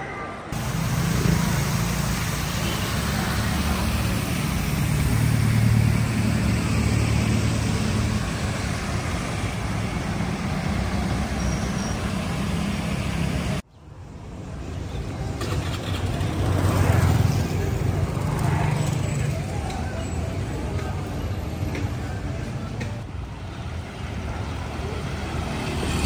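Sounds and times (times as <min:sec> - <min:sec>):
traffic rumbling and passing: 0:00.0 - 0:26.0.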